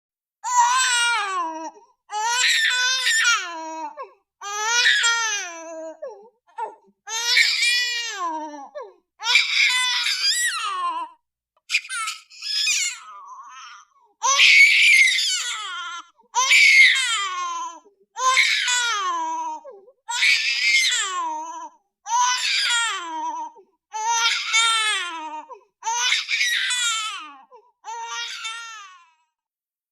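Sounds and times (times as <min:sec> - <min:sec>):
baby crying: 0:00.4 - 0:29.2.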